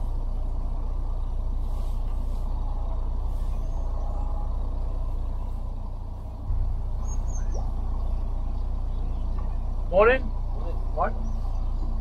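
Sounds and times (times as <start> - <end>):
diesel engine throbbing: 0.0 - 12.0.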